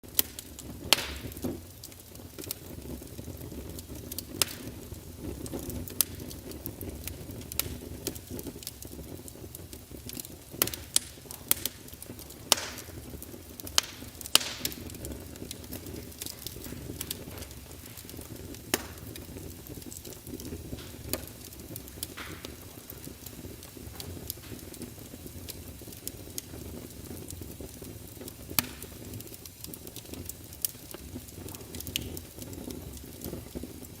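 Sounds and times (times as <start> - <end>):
fire crackling in fireplace: 0.0 - 34.0.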